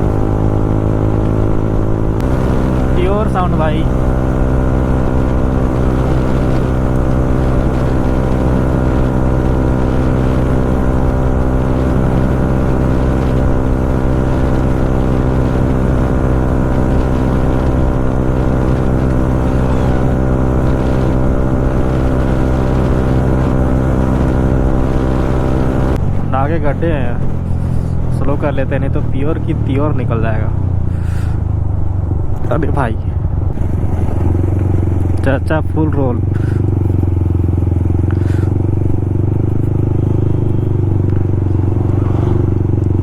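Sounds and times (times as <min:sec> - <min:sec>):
motorcycle engine cruising: 0:00.0 - 0:43.0.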